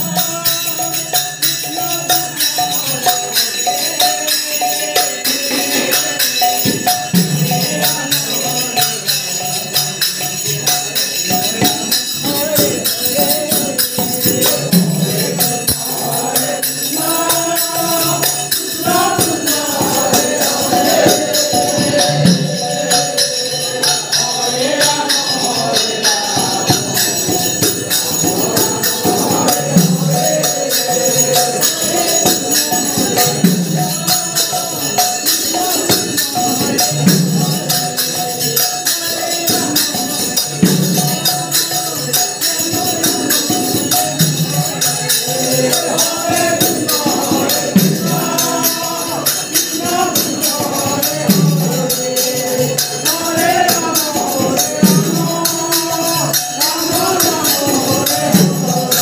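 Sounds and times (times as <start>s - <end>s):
hand cymbals jingling: 0.0s - 59.0s
hand drum: 0.0s - 59.0s
men singing a chant: 0.0s - 59.0s.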